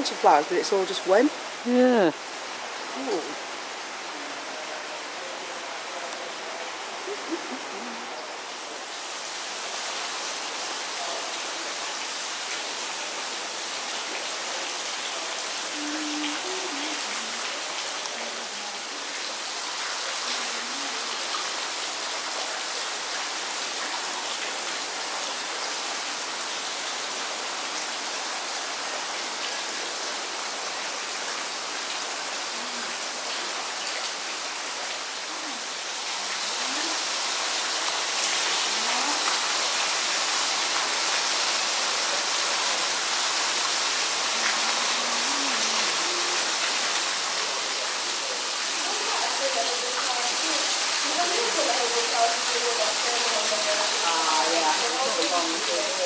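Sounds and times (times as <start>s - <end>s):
running water hiss: 0.0s - 56.0s.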